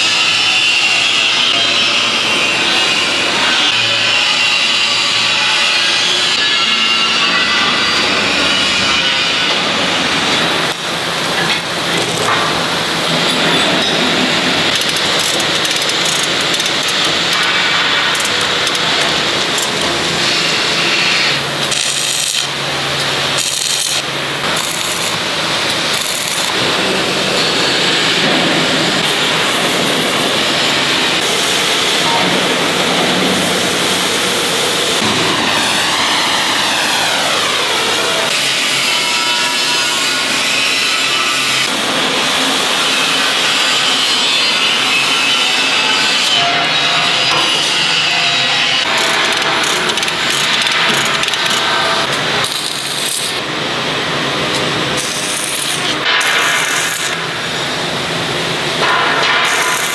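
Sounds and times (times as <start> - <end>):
workshop noise: 0.0 - 59.9.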